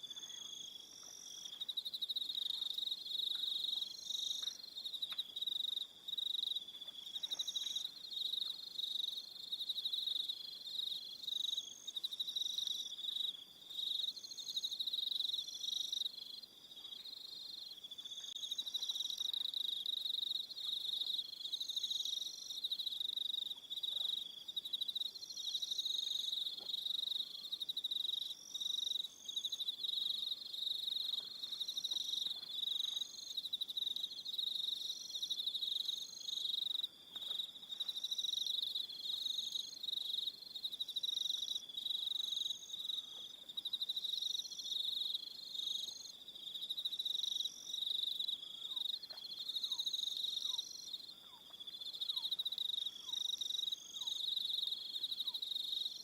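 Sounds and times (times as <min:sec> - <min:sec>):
crickets trilling: 0:00.0 - 0:56.0
high pulsed insect call: 0:00.0 - 0:56.0.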